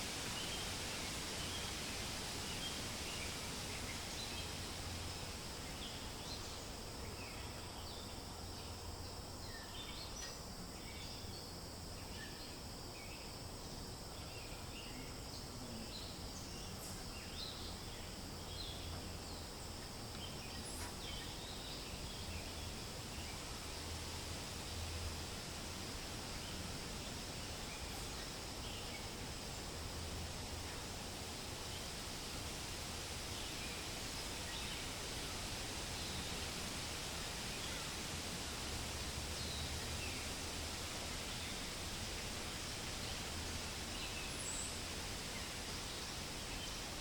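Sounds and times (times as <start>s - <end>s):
wind in leaves: 0.0s - 47.0s.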